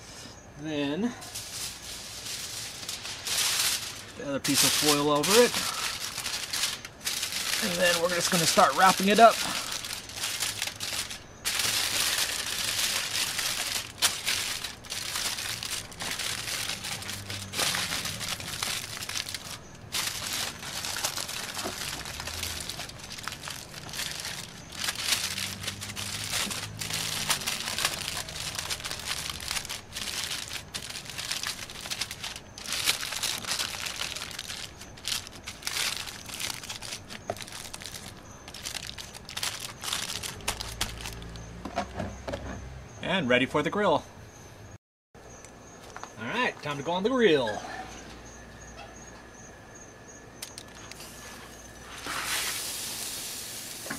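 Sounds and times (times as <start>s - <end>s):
aluminium foil crinkling: 1.1s - 41.4s, 50.4s - 53.9s.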